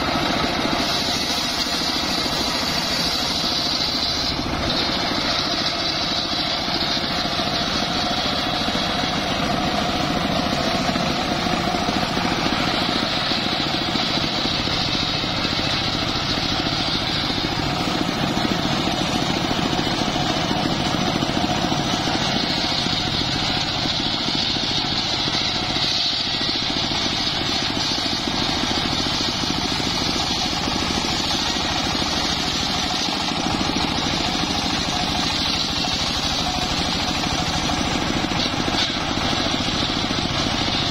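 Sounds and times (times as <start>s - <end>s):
saw blade whining through wood: 0.0s - 40.9s
sawbench engine drone: 0.0s - 40.9s.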